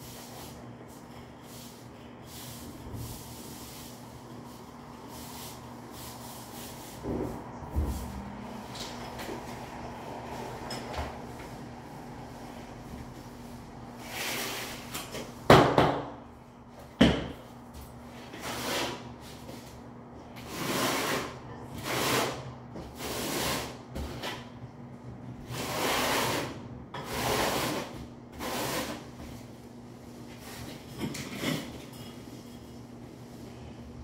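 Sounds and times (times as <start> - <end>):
hand scrubbing the floor: 0.0 - 15.4, 18.2 - 19.8, 20.4 - 24.4, 25.5 - 33.8.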